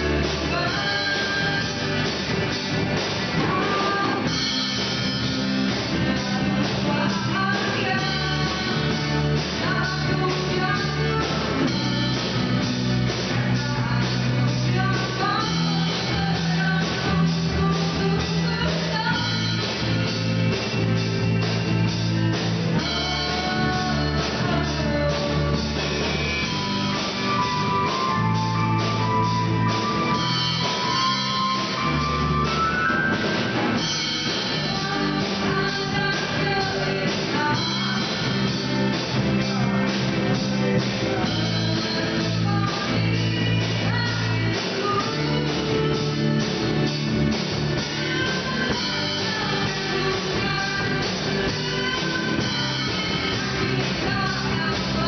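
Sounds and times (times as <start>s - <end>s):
pop-rock band playing: 0.0s - 55.0s.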